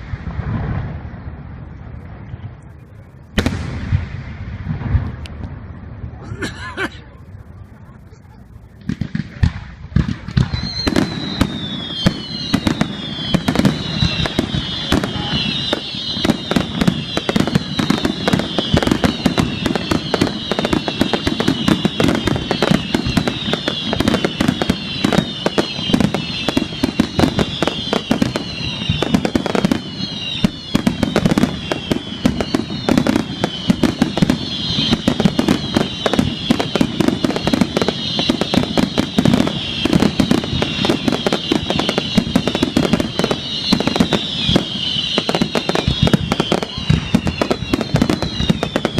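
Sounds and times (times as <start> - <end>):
fireworks bangs and crackling: 0.0 - 48.9
whistling fireworks: 0.0 - 48.9.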